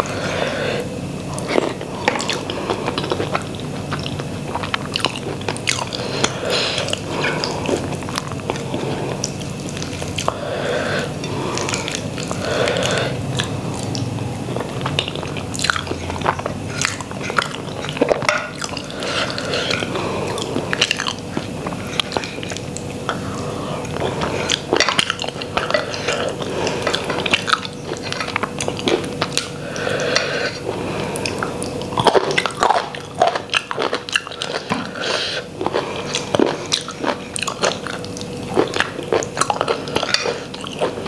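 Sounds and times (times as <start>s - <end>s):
person chewing food: 0.0s - 41.0s
food crunch: 1.3s - 41.0s.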